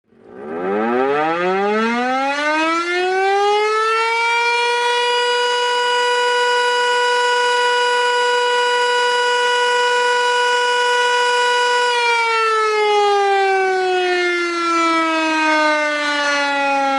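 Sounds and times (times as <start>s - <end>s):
siren rising to high tone: 0.1s - 16.9s.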